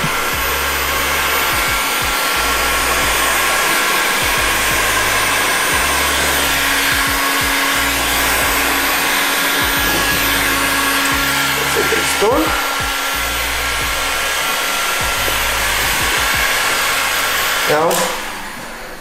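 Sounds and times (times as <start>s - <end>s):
heat gun blowing: 0.0s - 19.0s.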